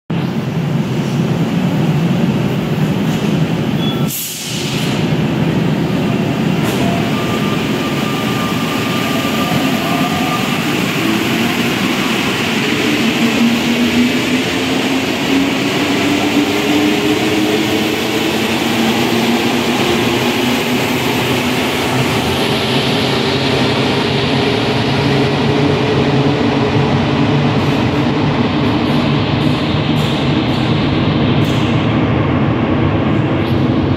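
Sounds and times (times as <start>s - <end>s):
metro train rumble: 0.1s - 33.9s.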